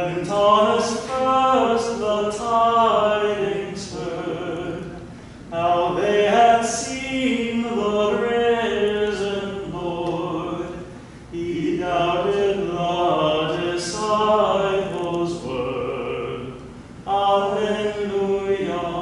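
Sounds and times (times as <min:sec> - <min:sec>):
priest chanting: 0:00.0 - 0:19.0.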